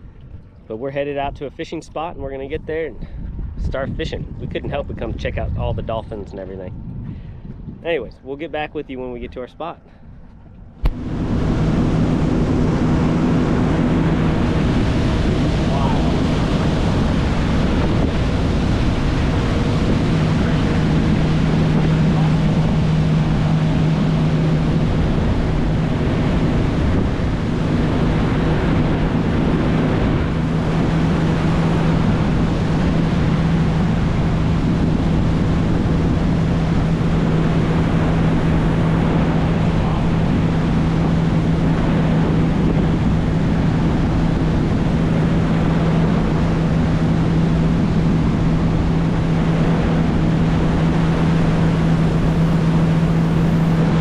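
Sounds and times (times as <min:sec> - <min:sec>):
outboard motor droning: 0:00.0 - 0:54.0
wind and water rushing: 0:00.0 - 0:54.0.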